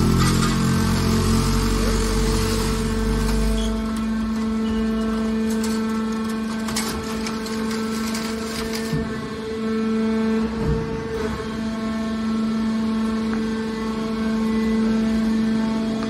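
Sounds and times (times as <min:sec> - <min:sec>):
hydraulic pump humming: 0:00.0 - 0:16.0.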